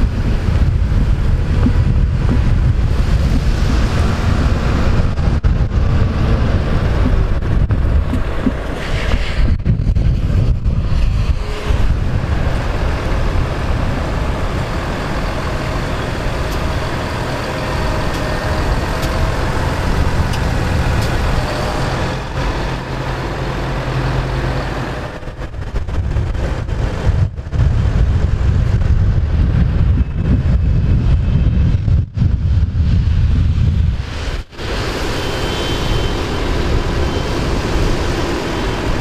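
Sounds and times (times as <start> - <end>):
tractors driving past: 0.0 - 29.1, 34.0 - 39.0.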